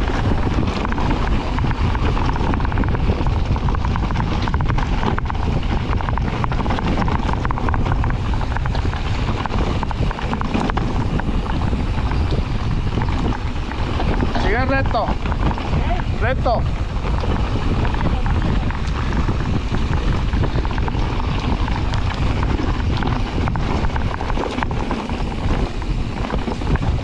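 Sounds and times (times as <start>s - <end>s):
bike clattering over dirt trail: 0.0s - 27.0s
wind rushing over microphone: 0.0s - 27.0s.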